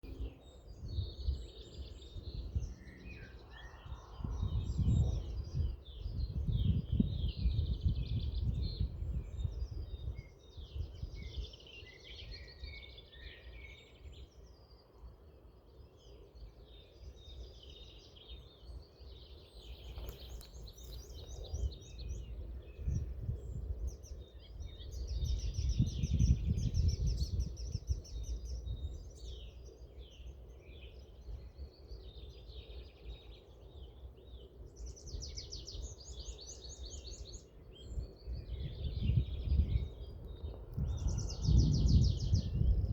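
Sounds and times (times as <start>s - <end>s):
songbirds singing and chirping: 0.0s - 42.9s.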